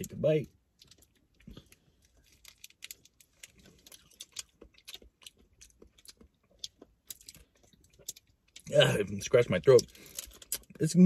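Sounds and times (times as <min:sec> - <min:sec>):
chewing candy: 0:00.7 - 0:10.8.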